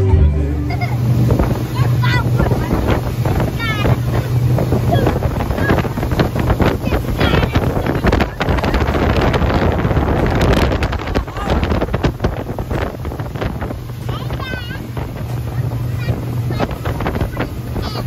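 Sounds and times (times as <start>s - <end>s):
rushing water: 0.0s - 18.0s
speedboat engine hum: 0.0s - 18.0s
wind buffeting microphone: 1.0s - 18.0s.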